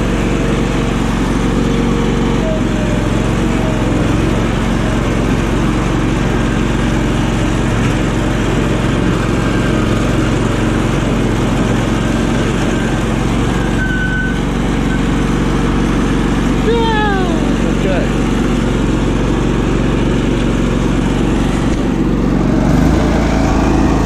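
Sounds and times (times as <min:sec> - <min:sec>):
riding mower engine running: 0:00.0 - 0:24.0.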